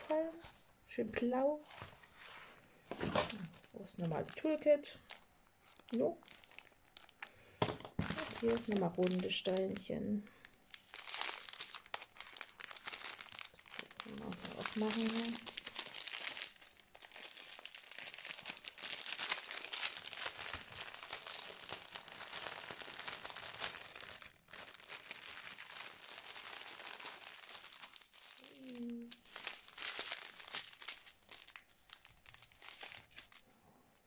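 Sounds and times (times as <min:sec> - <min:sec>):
plastic packaging crinkling: 0:03.0 - 0:33.5.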